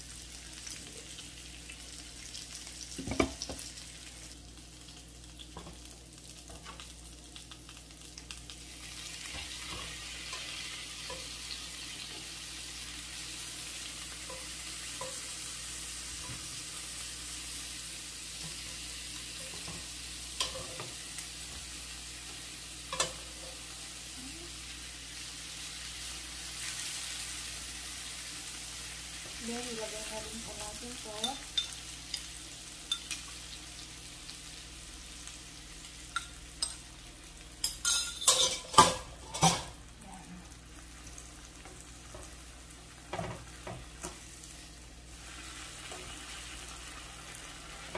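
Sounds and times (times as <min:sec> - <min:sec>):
food sizzling in a skillet: 0:00.0 - 0:47.9.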